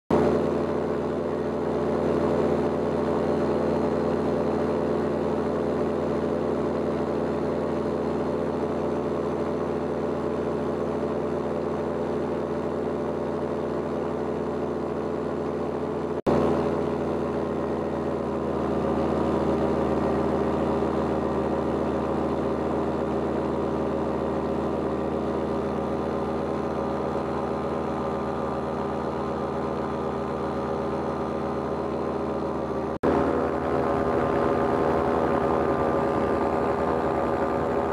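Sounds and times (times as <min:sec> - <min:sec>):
paramotor engine droning: 0:00.1 - 0:37.9.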